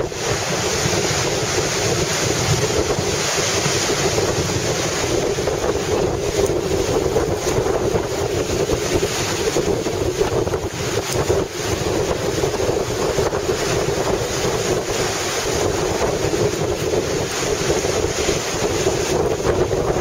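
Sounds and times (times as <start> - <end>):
strong wind buffeting microphone: 0.0 - 20.0
waves surging and breaking: 0.0 - 20.0.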